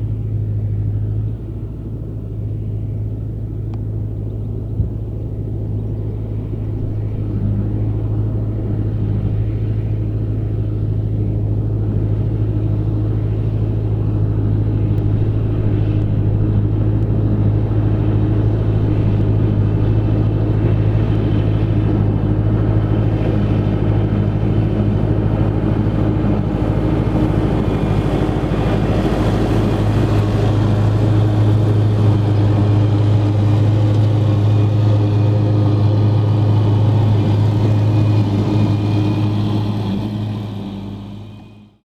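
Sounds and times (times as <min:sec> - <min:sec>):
tractor engine drone: 0:00.0 - 0:41.8.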